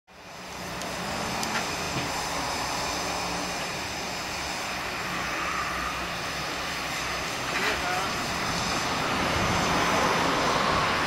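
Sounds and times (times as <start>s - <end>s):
steam hissing: 0.1s - 11.0s.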